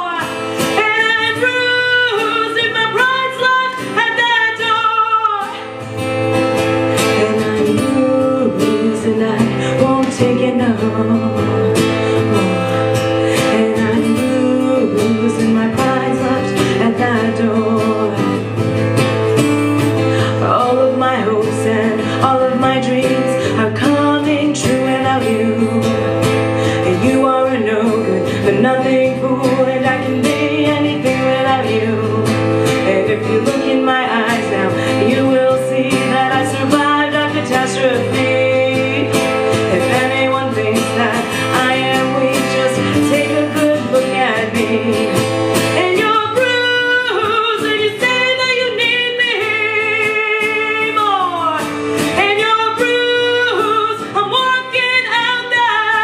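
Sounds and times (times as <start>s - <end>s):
guitar: 0.0s - 56.0s
woman singing with vibrato: 0.0s - 56.0s.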